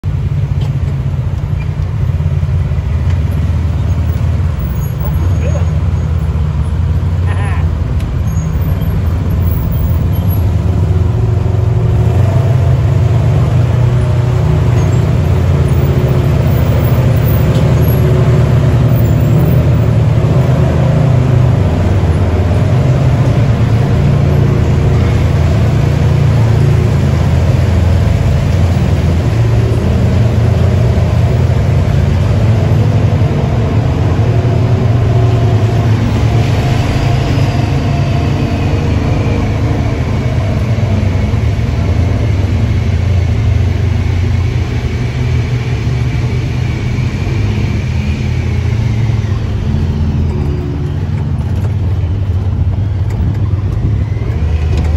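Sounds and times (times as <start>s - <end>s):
utility vehicle engine running: 0.0s - 54.9s.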